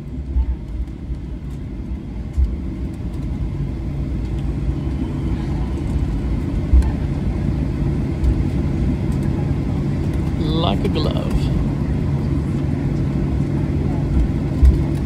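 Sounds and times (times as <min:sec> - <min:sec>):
wheels and engines rumbling: 0:00.0 - 0:15.0.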